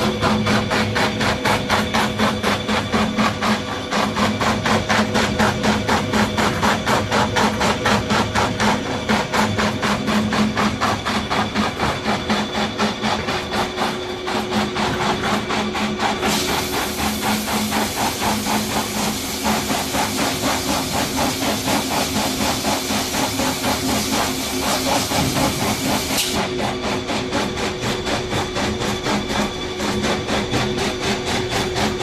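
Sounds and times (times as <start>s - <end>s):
cutting machine clattering: 0.0s - 32.0s.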